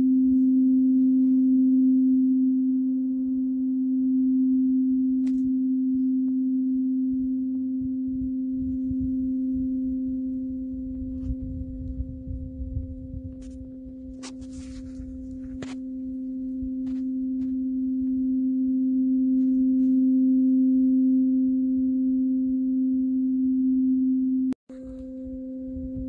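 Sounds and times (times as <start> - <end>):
tuning fork ringing: 0.0 - 26.0.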